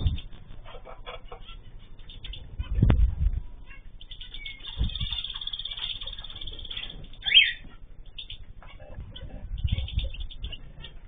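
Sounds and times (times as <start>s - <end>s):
birds twittering: 0.0s - 11.0s.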